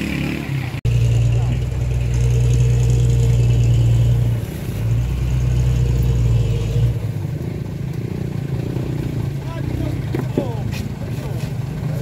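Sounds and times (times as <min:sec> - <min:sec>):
diesel truck engine running hard: 0:00.0 - 0:12.0.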